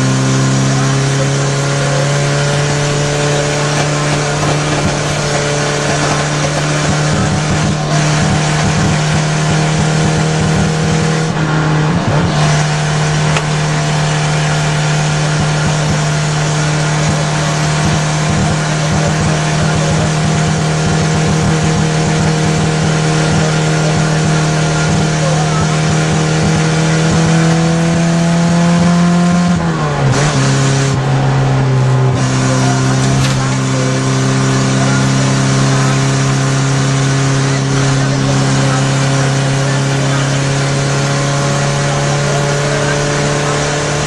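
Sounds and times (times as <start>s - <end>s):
car engine running hard: 0.0s - 44.0s
road and tyre noise: 0.0s - 44.0s.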